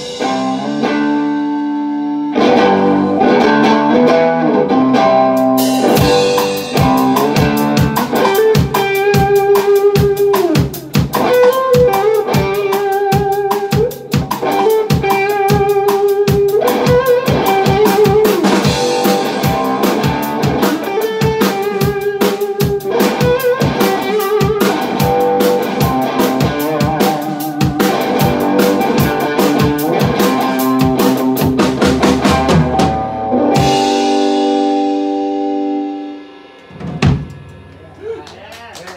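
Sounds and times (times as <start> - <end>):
electric guitar blues lead: 0.0 - 38.4
drum kit beat: 0.0 - 38.9.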